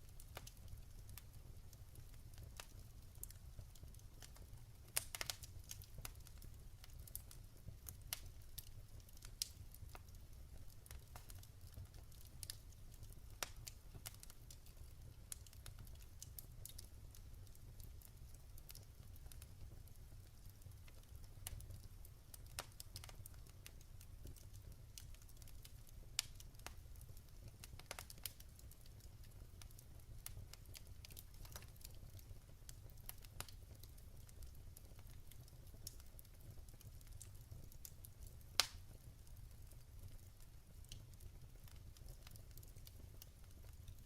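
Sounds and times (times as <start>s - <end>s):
log fire crackling and popping: 0.0s - 44.0s
low steady fire rumble: 0.0s - 44.0s.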